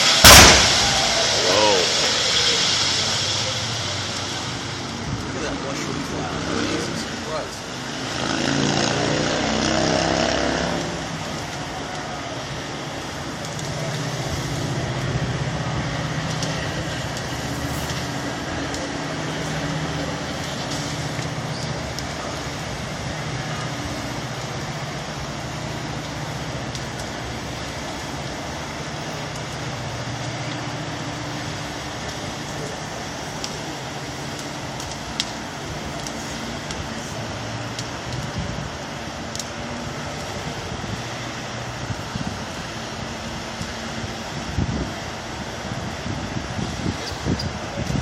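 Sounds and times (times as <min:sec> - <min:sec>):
fire roaring: 0:00.0 - 0:48.0.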